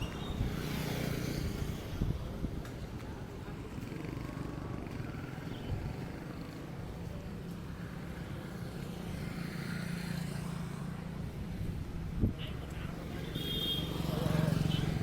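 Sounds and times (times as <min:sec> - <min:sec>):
faint street noise: 0:00.0 - 0:15.0.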